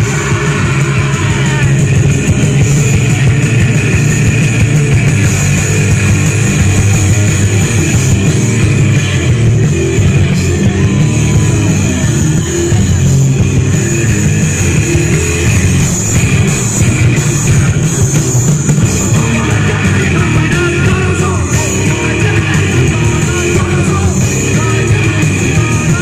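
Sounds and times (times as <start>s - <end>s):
distorted electric guitar: 0.0s - 26.0s
drum kit: 0.0s - 26.0s
rock band playing: 0.0s - 26.0s.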